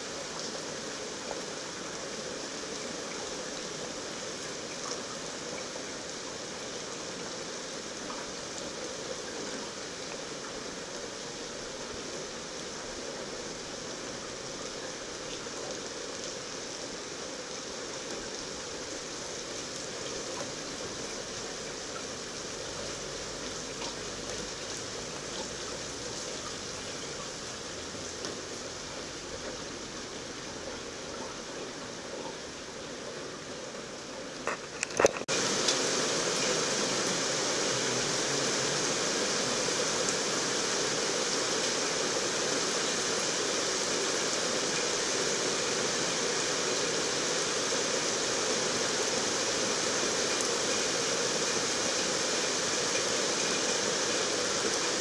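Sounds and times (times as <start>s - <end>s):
heavy rain hissing: 0.0s - 55.0s
raindrops ticking close by: 0.0s - 55.0s.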